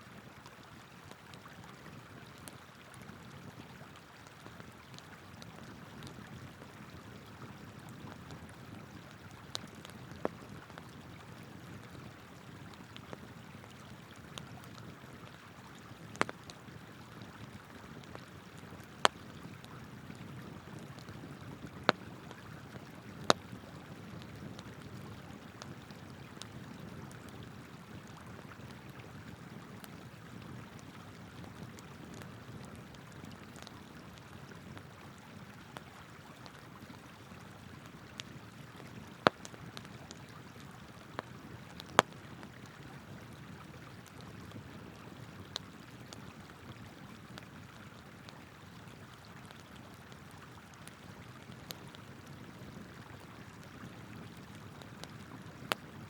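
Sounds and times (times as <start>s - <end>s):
campfire crackling and popping: 0.4s - 56.0s.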